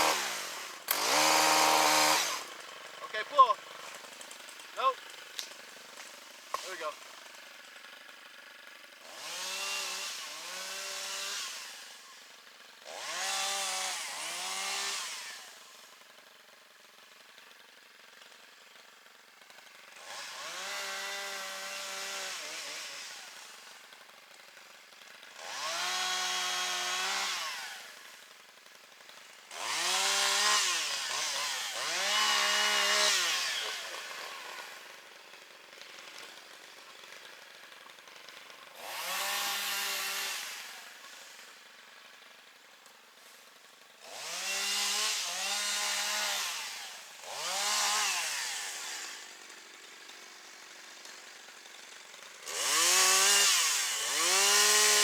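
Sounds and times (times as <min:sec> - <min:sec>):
chainsaw revving cutting wood: 0:00.0 - 0:55.0.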